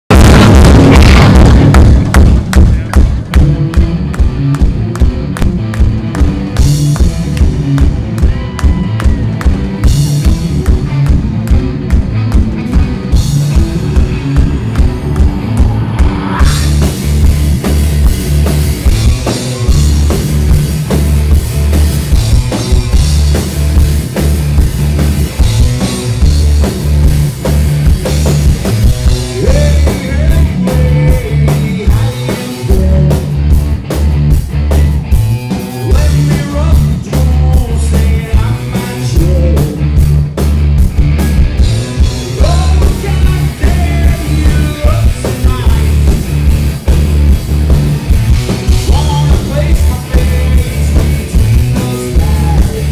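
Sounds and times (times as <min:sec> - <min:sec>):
live rock band playing: 0:00.1 - 0:52.9.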